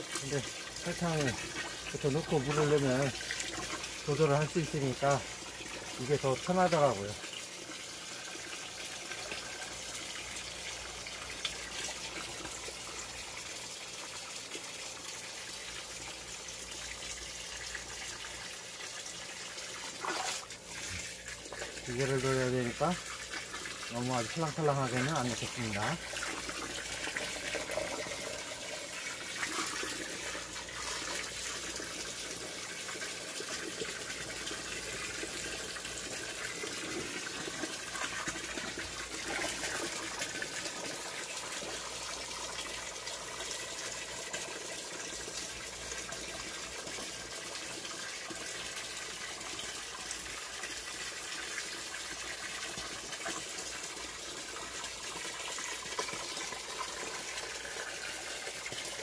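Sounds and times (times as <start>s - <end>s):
hose water pouring into bucket: 0.0s - 59.0s.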